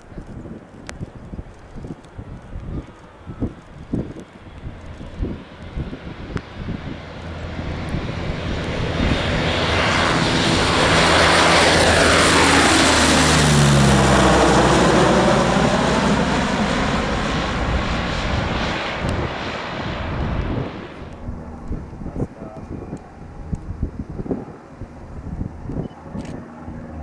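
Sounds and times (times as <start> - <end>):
propeller plane passing overhead: 0.0 - 27.0.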